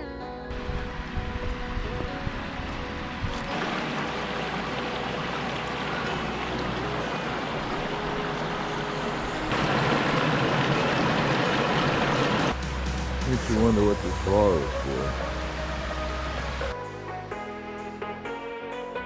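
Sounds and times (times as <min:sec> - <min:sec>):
stream water rushing: 0:00.5 - 0:16.7.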